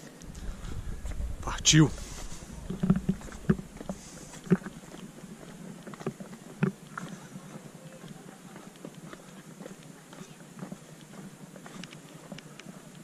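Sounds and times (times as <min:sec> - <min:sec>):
footsteps on stone path: 0:00.0 - 0:13.0.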